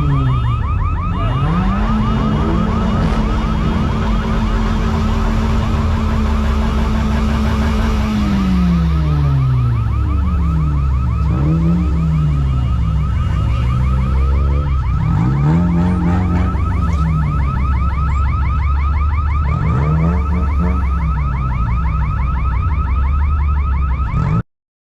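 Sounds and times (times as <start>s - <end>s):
electronic alarm chirps: 0.0s - 24.3s
heavy steady bass: 0.0s - 24.4s
sweeping alarm tones: 0.0s - 24.4s.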